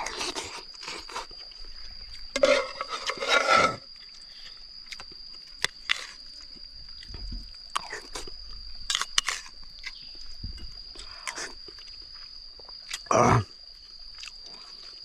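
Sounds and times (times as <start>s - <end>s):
person chewing and crunching: 0.0s - 3.2s, 3.8s - 15.0s.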